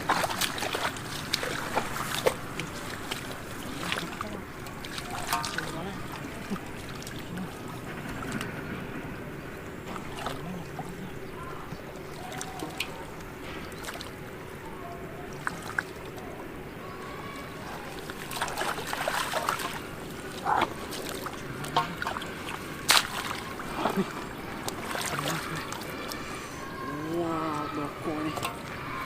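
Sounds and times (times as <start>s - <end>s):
steady low hum: 0.0s - 29.0s
water splashing and sloshing: 0.0s - 29.0s.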